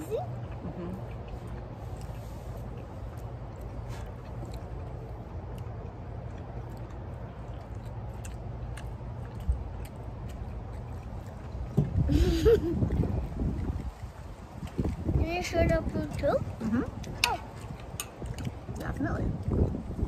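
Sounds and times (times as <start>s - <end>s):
chewing: 0.0s - 20.0s.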